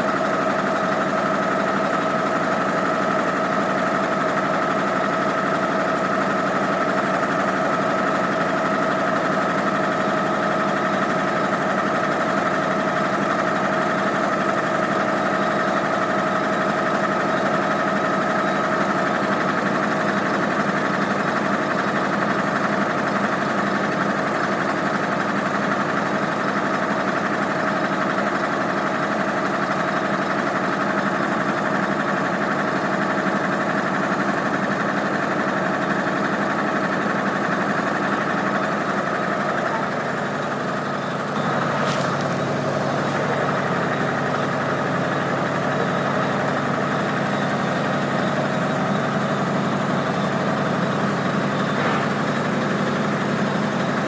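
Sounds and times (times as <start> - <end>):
engine running under load: 0.0 - 54.0.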